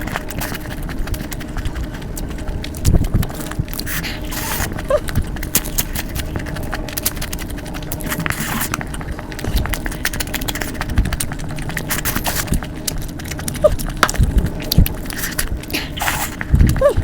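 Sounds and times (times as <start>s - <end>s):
chewing and crunching: 0.0s - 17.0s
low rumble: 0.0s - 17.0s.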